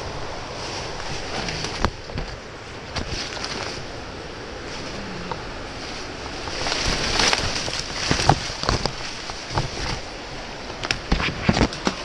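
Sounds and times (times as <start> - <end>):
leaves rustling against camera: 0.0 - 12.0
stream rushing: 0.0 - 12.0.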